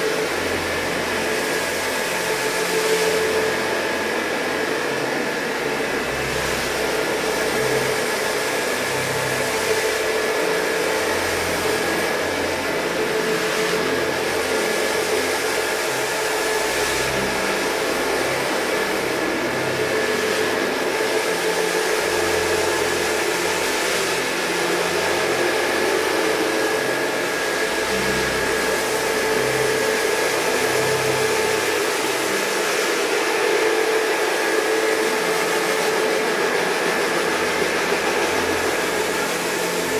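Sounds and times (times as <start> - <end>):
carpet scrubber motor hum: 0.0 - 39.9.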